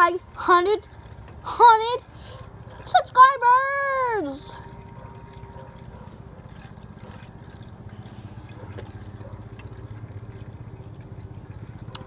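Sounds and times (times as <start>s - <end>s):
small motor pulsing hum: 0.0s - 12.0s.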